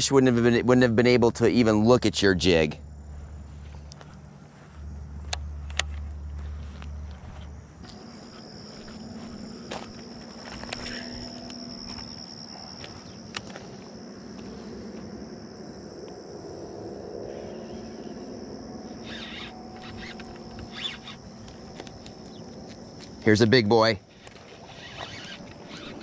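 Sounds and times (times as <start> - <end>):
insects buzzing drone: 0.0 - 26.0.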